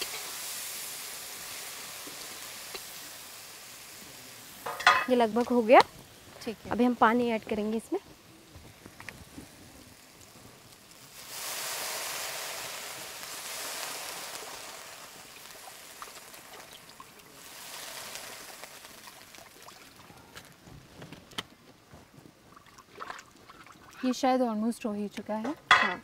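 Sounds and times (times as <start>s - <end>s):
water sizzling in hot oil: 0.0s - 21.4s.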